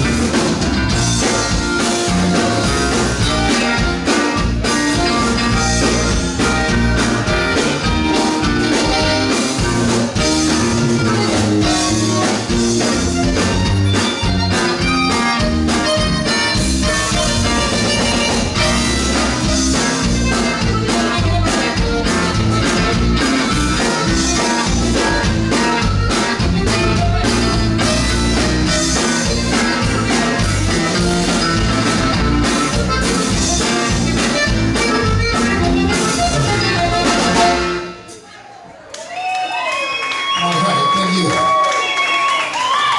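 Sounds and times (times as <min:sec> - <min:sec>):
electric bass: 0:00.0 - 0:38.0
guitars: 0:00.0 - 0:38.2
drum kit: 0:00.0 - 0:38.5.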